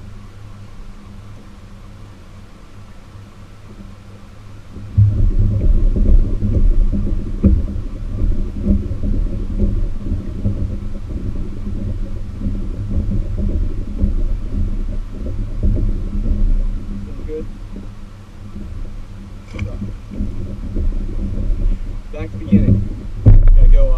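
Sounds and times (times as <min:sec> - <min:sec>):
faint steady hum: 0:00.0 - 0:23.9
wind buffeting microphone: 0:00.0 - 0:23.9.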